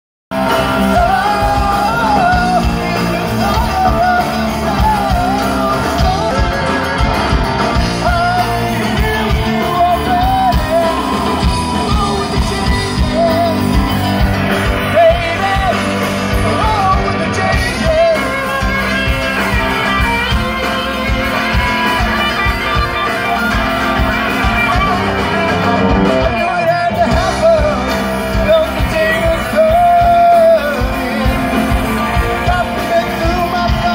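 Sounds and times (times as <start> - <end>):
lead singer singing: 0.3 - 33.9
live rock band playing: 0.3 - 33.9.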